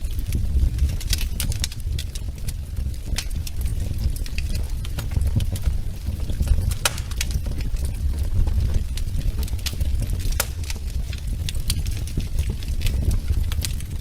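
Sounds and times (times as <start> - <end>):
fire rumbling: 0.0 - 14.0
logs crackling and popping: 0.0 - 14.0.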